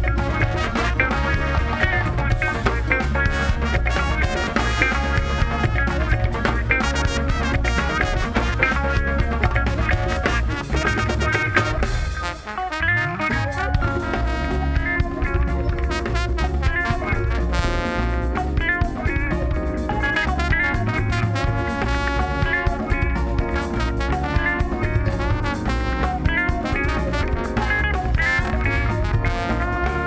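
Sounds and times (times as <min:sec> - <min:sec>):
steady bass beat: 0:00.0 - 0:12.0, 0:13.8 - 0:30.0
drums: 0:00.0 - 0:30.0.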